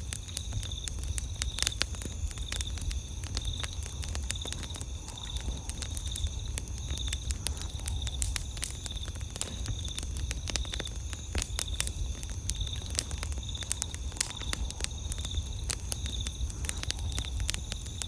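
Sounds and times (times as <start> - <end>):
campfire crackling and popping: 0.0 - 18.0
crickets trilling: 0.0 - 18.0.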